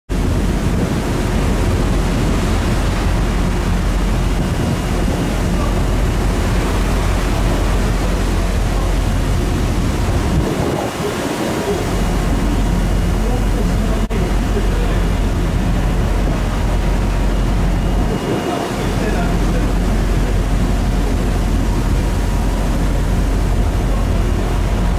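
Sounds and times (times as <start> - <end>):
low ship drone: 0.1 - 24.9
wind and sea water rushing: 0.1 - 24.9
wind buffeting microphone: 0.1 - 24.9.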